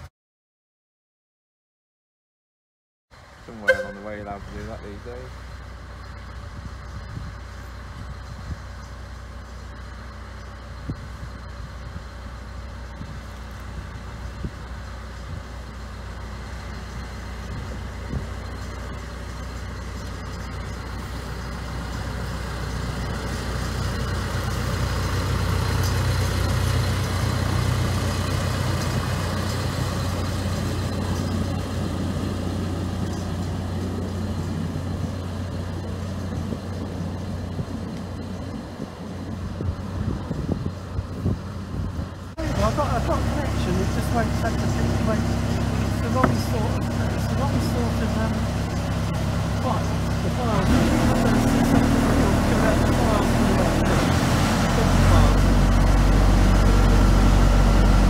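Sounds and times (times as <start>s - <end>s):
diesel locomotive engine hum: 3.1s - 58.0s.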